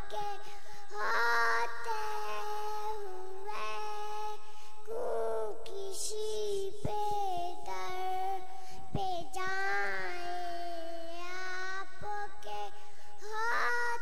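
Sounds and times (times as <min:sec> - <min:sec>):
girl singing into a microphone: 0:00.0 - 0:14.0.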